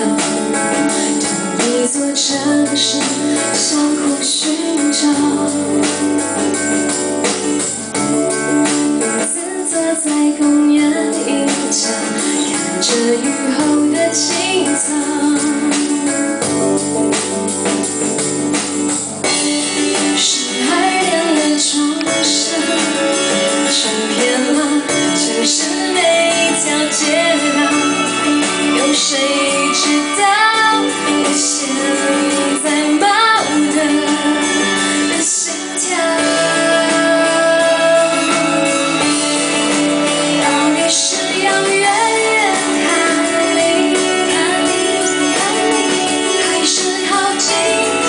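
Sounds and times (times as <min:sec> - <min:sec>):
woman singing into microphone: 0:00.0 - 0:07.0, 0:08.4 - 0:16.9, 0:19.3 - 0:48.0
instrumental accompaniment: 0:00.0 - 0:48.0.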